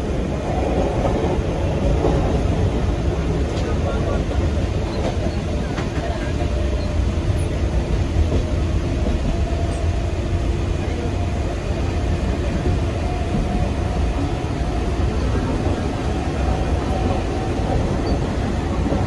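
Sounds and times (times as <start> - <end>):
passengers' voices: 0.0 - 19.0
train rumbling inside carriage: 0.0 - 19.0.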